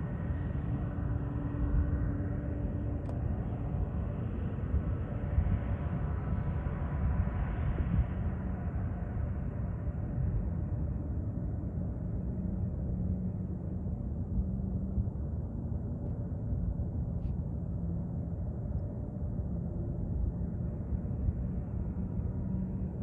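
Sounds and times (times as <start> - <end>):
distant jet engines taxiing: 0.0 - 23.0.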